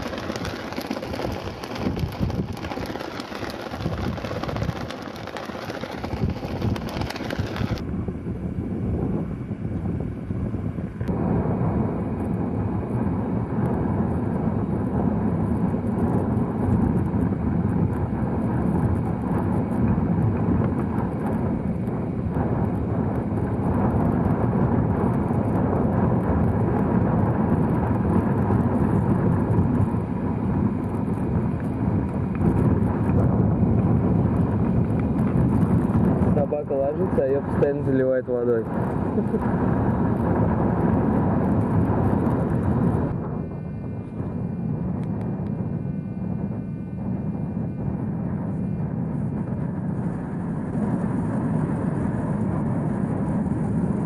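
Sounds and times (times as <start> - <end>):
strong wind on microphone: 0.0 - 54.0.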